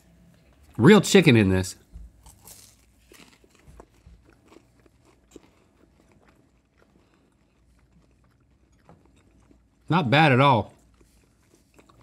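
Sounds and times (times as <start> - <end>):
crisp crunches of chewing: 1.9 - 12.0.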